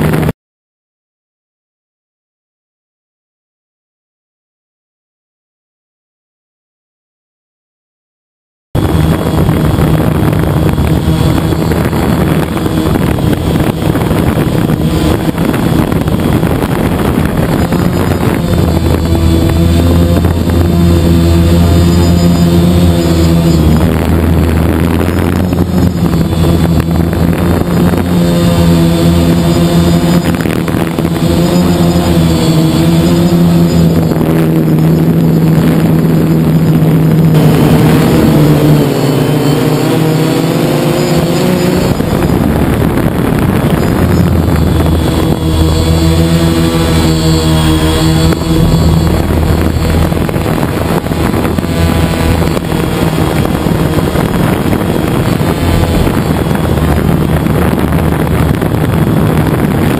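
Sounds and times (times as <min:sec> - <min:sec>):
drone propellers buzzing: 0:00.0 - 0:00.3, 0:08.8 - 0:59.9.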